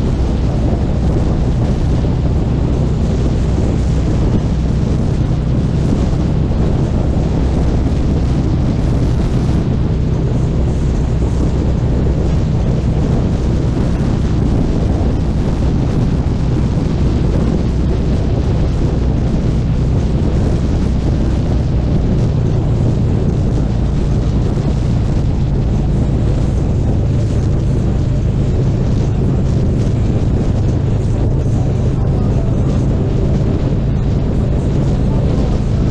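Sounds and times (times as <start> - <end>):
motorcycle engine running: 0.0 - 35.9
wind noise on microphone: 0.0 - 35.9.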